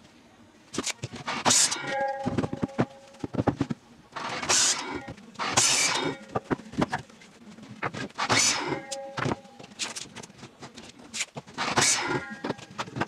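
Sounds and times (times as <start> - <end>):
wood boards knocking and clattering: 1.0 - 8.5, 9.1 - 13.0.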